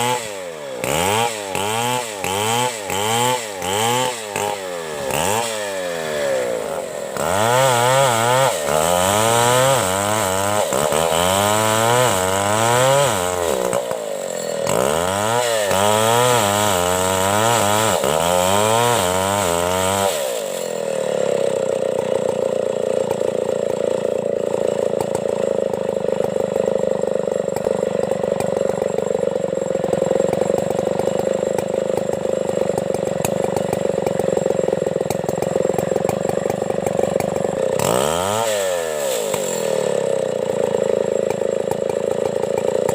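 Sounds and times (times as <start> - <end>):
chainsaw revving: 0.0 - 42.9.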